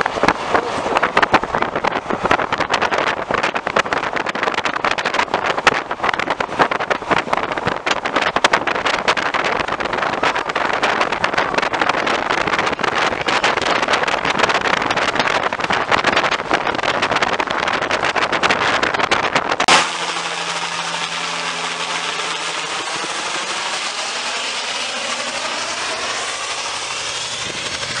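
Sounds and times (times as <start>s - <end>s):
helicopter rotor chop: 0.0s - 28.0s.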